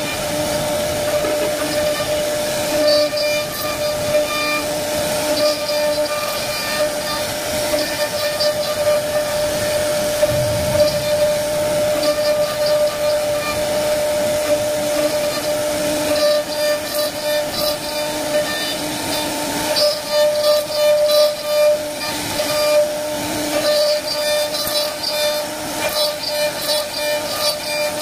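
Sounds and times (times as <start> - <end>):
router high whine: 0.0 - 28.0
wood cutting hiss: 0.0 - 28.0.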